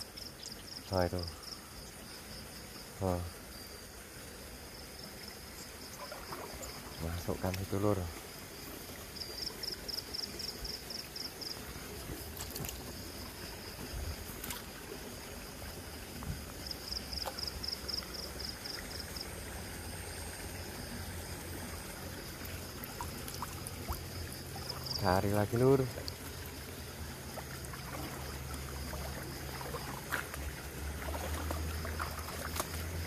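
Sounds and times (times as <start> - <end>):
insect chirping trill: 0.0 - 33.0
stream water sloshing: 0.0 - 33.0.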